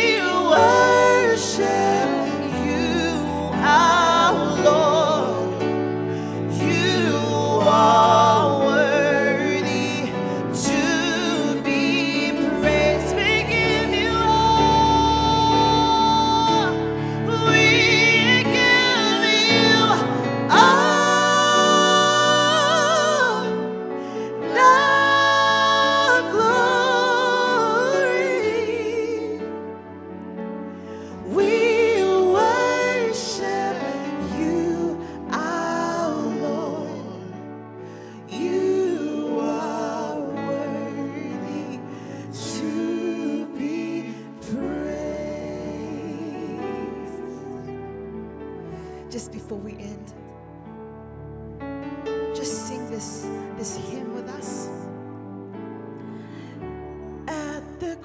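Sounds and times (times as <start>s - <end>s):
people singing worship song: 0.0s - 50.1s, 52.4s - 58.0s
sustained backing music: 0.0s - 58.0s.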